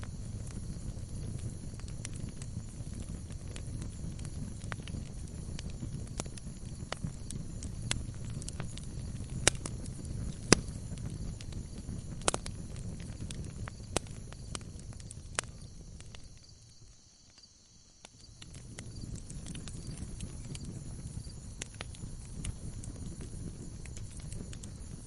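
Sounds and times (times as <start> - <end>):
fire flames rumbling: 0.0 - 25.0
logs crackling and popping: 0.0 - 25.0.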